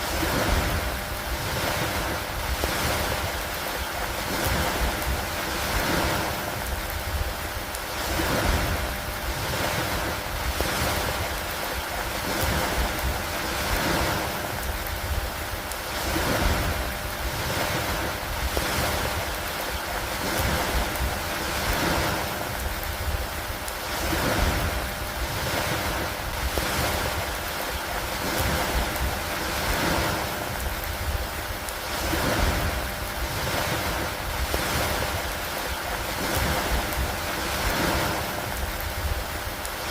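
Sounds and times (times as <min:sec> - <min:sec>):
rain and wind hissing: 0:00.0 - 0:39.9.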